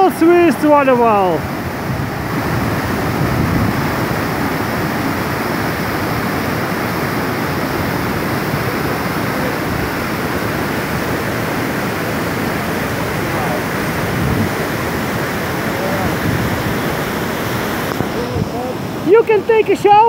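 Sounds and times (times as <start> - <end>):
waterfall rushing onto rocks: 0.0 - 20.0.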